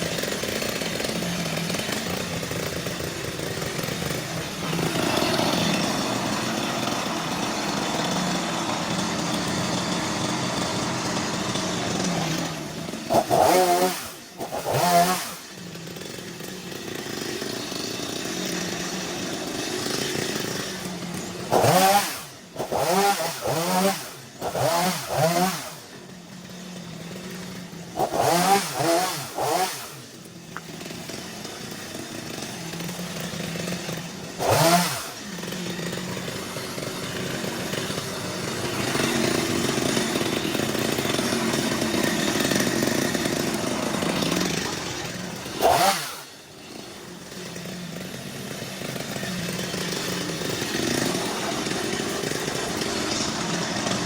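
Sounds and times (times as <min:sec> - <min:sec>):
two-stroke chainsaw revving: 0:00.0 - 0:54.0.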